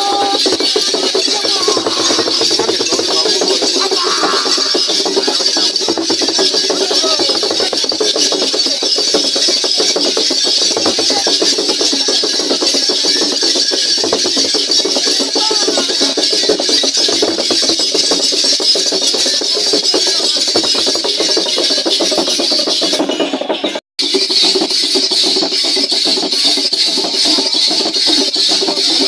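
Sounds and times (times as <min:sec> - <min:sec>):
dance rattles clattering: 0:00.0 - 0:29.0.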